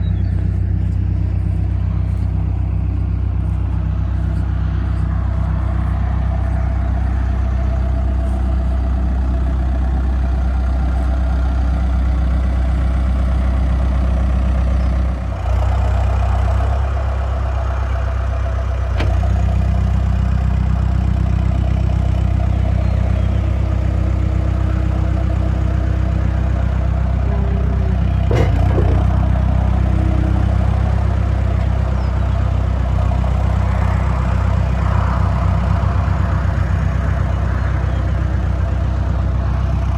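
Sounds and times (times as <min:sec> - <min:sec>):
backhoe diesel engine idling: 0:00.0 - 0:39.9.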